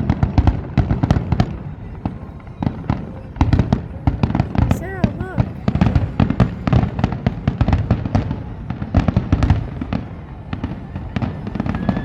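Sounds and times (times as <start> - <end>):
fireworks barrage: 0.0 - 12.0.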